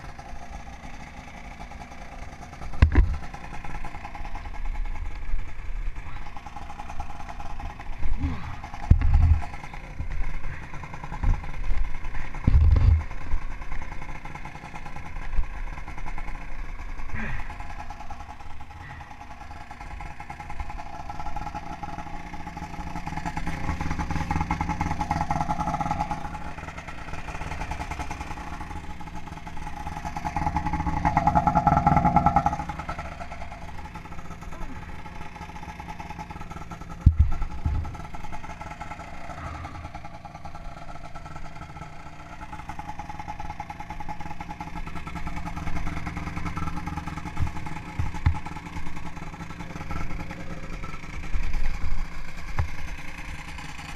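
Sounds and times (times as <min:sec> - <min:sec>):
snowmobile engine running: 0:00.0 - 0:53.9.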